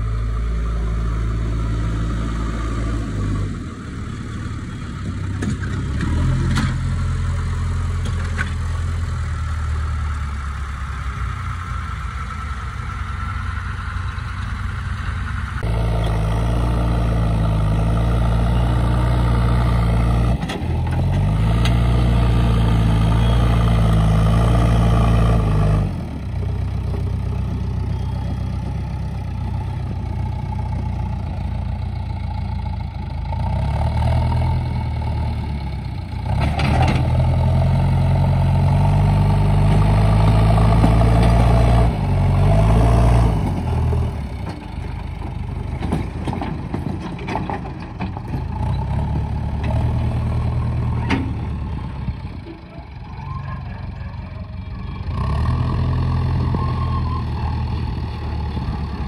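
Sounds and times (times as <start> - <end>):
diesel engine at high revs: 0.0 - 52.6, 54.9 - 59.0.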